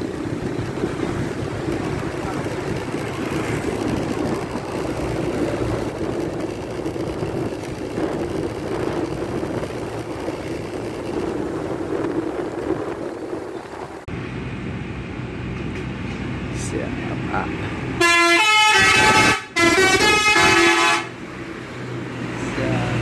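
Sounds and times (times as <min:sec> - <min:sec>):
traffic noise: 0:00.0 - 0:23.0
vehicle engine droning: 0:00.0 - 0:23.0.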